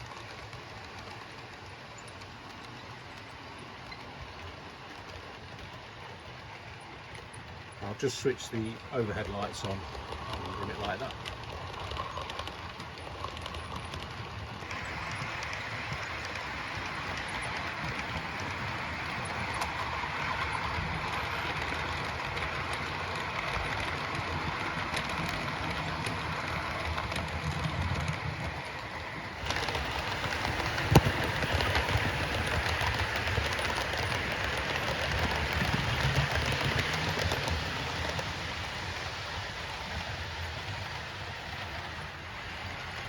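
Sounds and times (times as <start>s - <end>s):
model train wheels rattling on rail: 0.0s - 43.0s.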